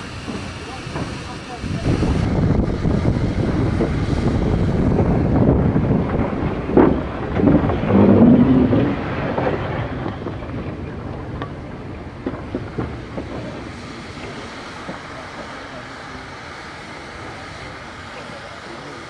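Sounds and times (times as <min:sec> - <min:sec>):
train rumbling past: 0:00.0 - 0:19.0
wind buffeting microphone: 0:00.0 - 0:19.0.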